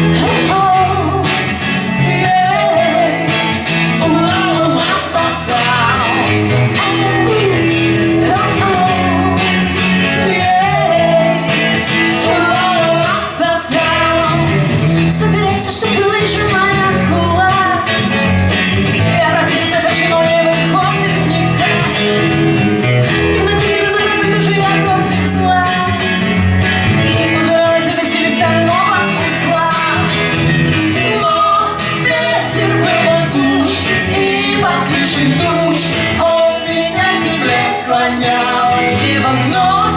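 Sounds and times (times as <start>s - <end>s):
person singing: 0.0s - 39.9s
strummed guitar: 0.0s - 39.9s.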